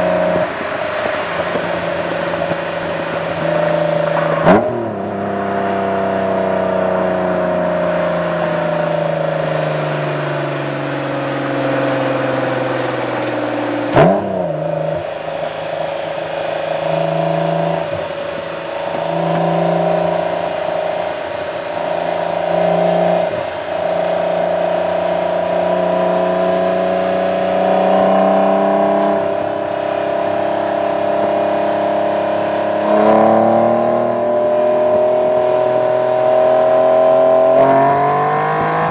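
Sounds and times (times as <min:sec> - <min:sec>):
car exhaust revving: 0:00.0 - 0:38.9.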